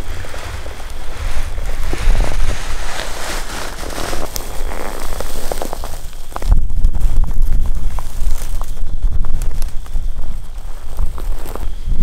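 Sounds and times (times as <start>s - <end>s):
footsteps crunching through dry grass: 0.0s - 12.0s
steady low rumble: 0.0s - 12.0s.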